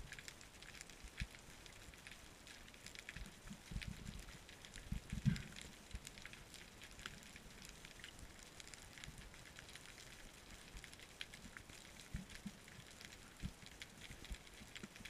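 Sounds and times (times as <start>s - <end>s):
faint underwater crackling: 0.0s - 15.0s.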